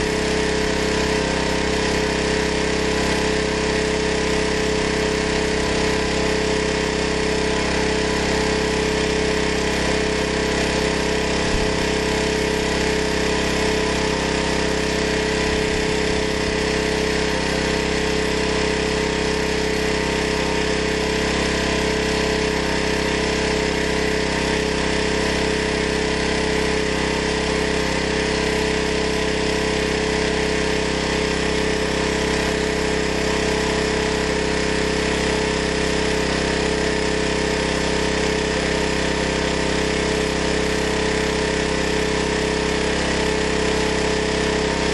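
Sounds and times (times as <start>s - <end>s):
portable generator engine running: 0.0s - 44.9s.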